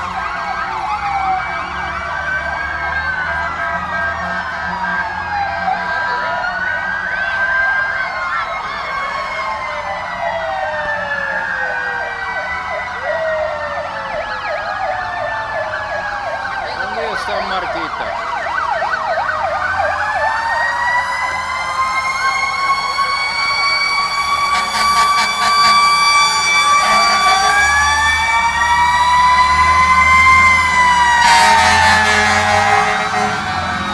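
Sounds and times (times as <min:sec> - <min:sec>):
fire engine sirens wailing: 0:00.0 - 0:33.9.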